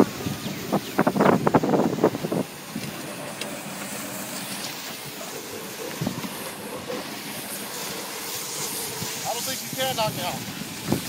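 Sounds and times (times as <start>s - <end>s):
golf cart driving on grass: 0.0s - 11.0s.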